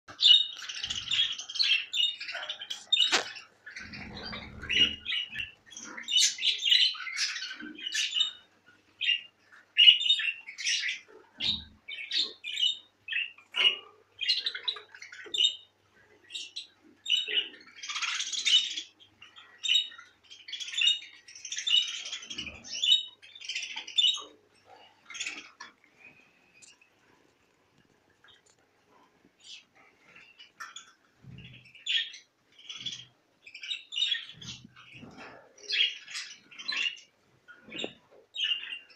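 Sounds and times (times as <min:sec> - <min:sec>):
budgerigars chirping and squawking: 0:00.1 - 0:27.0, 0:28.2 - 0:38.9.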